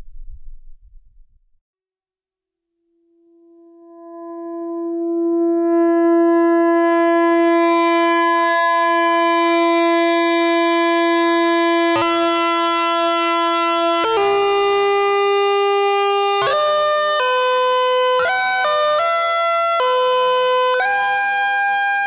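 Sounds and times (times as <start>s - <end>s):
buzzy synthesizer note: 3.6s - 22.0s.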